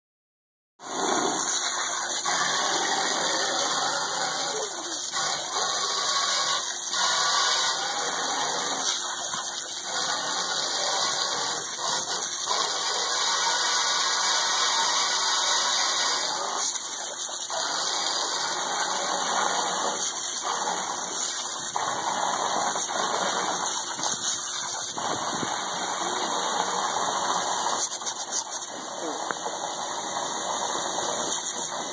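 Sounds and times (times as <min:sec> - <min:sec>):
garden hose water splashing into tub: 0:00.8 - 0:31.9.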